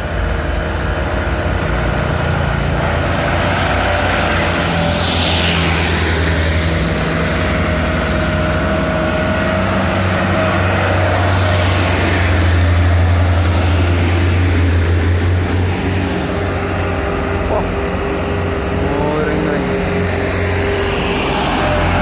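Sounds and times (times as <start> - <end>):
diesel truck engines droning: 0.0 - 22.0.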